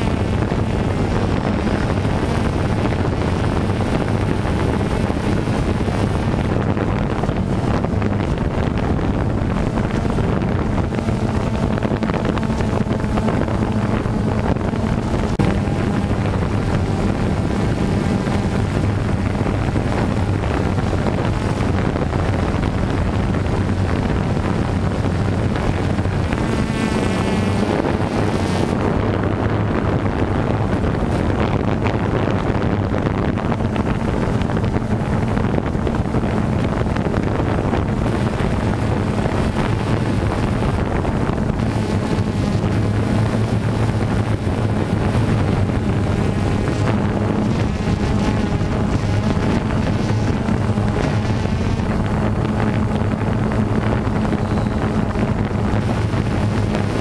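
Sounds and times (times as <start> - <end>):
drone propellers humming: 0.0 - 57.0
wind buffeting microphone: 0.0 - 57.0.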